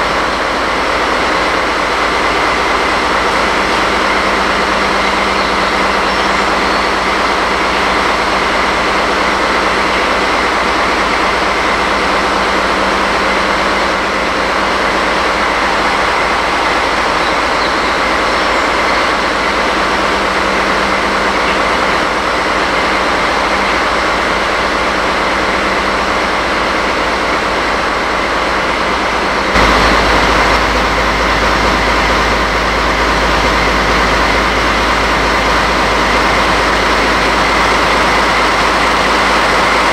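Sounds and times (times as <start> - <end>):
locomotive engine idling: 0.0 - 39.9.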